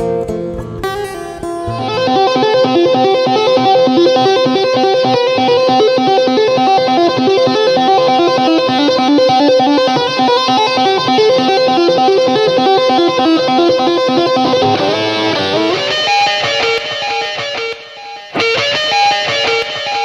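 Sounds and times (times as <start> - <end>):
electric guitar riff: 0.0 - 20.0.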